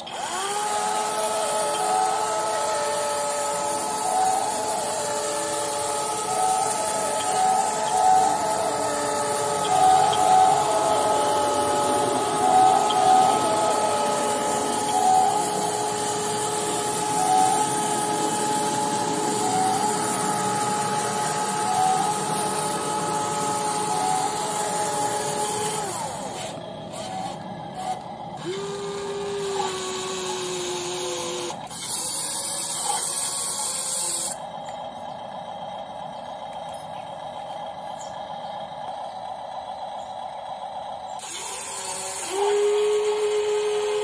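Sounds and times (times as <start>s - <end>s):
electric motor whining: 0.0s - 35.4s, 39.3s - 44.0s
lower motor whine: 0.0s - 44.0s.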